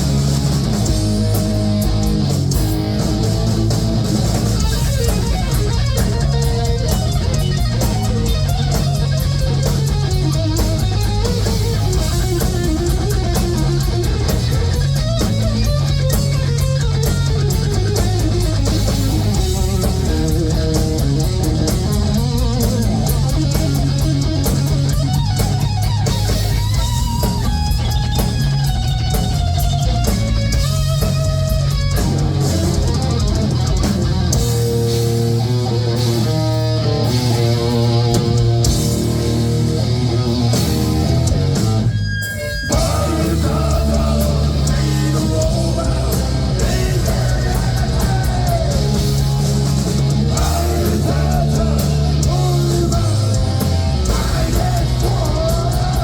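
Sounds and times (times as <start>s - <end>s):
distorted electric guitar: 0.0s - 56.0s
heavy metal band playing: 0.0s - 56.0s.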